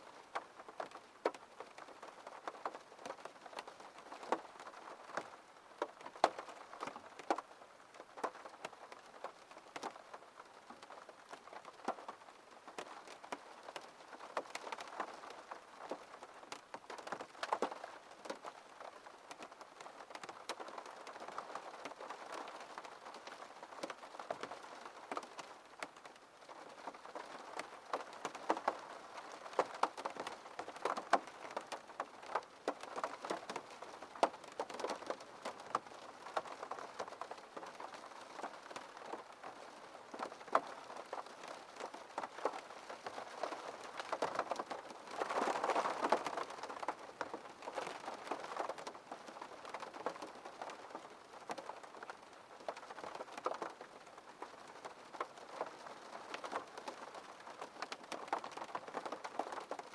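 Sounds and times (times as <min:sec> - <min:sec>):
raindrops tapping on glass: 0:10.8 - 0:59.9.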